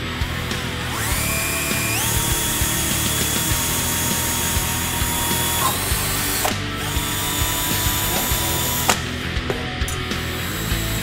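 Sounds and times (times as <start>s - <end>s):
cordless drill boring sheet metal: 0.0s - 9.3s, 9.9s - 11.0s.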